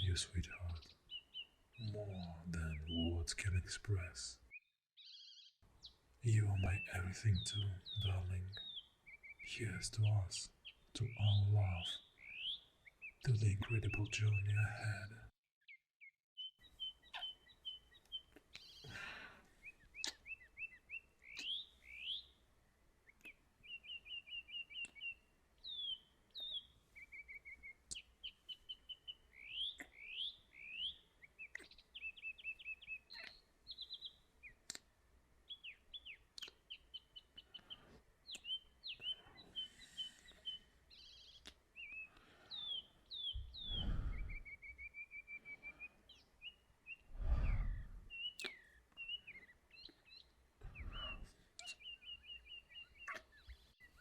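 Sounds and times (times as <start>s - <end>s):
songbirds chirping and trilling: 0.0s - 15.3s, 16.4s - 54.0s.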